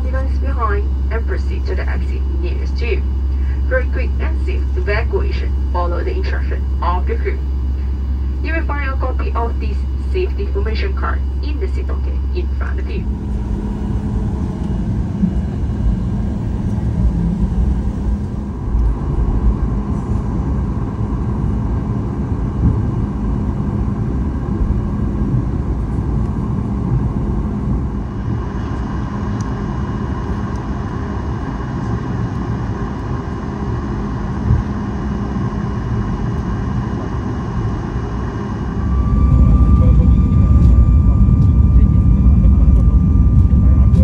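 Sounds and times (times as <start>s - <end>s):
aircraft engine rumble: 0.0s - 44.0s
faint steady whine: 0.0s - 44.0s.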